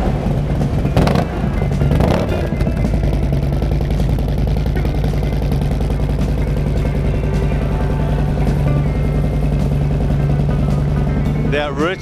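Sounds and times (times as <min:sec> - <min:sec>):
background music: 0:00.0 - 0:12.0
motorcycle engine idling: 0:00.0 - 0:12.0.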